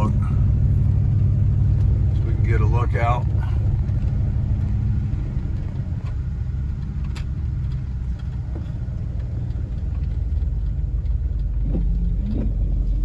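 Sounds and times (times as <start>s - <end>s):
vehicle engine rumble and road noise: 0.0s - 13.0s.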